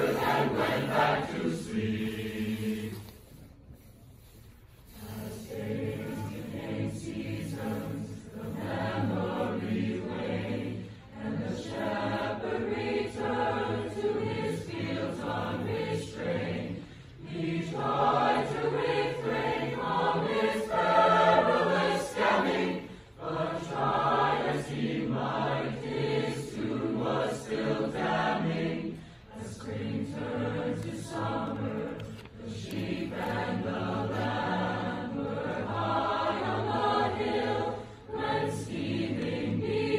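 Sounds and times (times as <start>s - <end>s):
choir singing: 0.0s - 3.4s, 4.9s - 39.9s.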